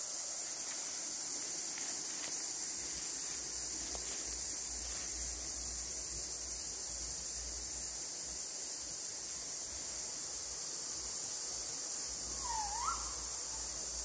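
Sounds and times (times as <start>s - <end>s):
insect chorus hiss: 0.0s - 14.0s.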